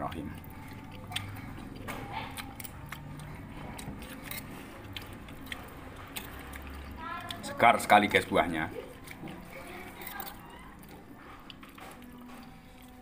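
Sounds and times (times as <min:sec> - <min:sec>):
person chewing fruit: 0:00.0 - 0:13.0.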